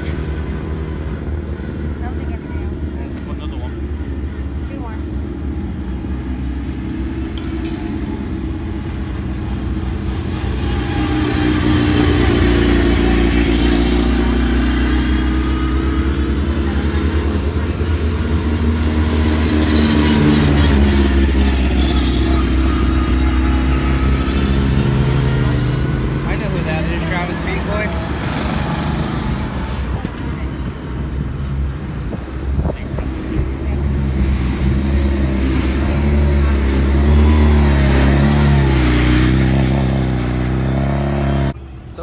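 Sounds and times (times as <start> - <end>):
vehicle engines running: 0.0 - 42.0.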